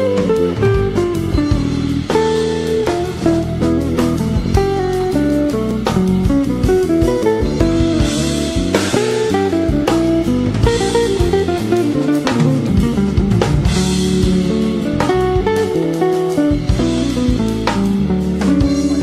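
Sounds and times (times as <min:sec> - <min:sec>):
background music with guitar and drums: 0:00.0 - 0:19.0.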